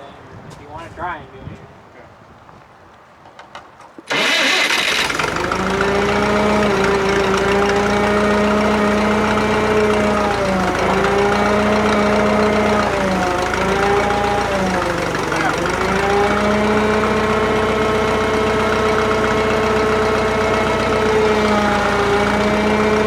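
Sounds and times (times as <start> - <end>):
crane engine starting and running: 3.6 - 23.0.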